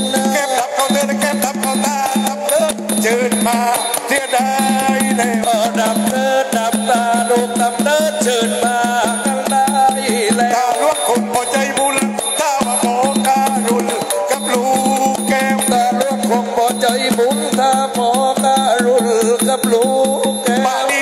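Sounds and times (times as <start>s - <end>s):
drums cymbals and clappers: 0.0s - 21.0s
wavering melody: 0.0s - 21.0s.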